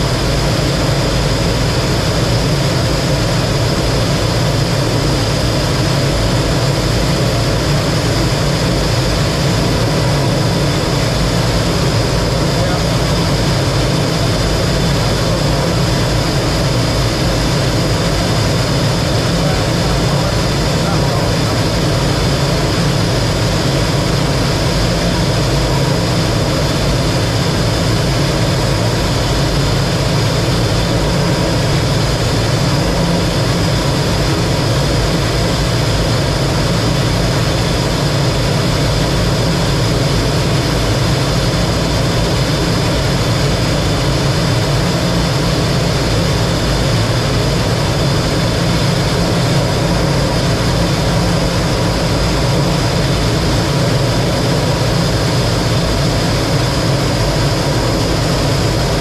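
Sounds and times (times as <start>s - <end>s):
faint high whine: 0.0s - 59.0s
jet engine drone in flight: 0.0s - 59.0s.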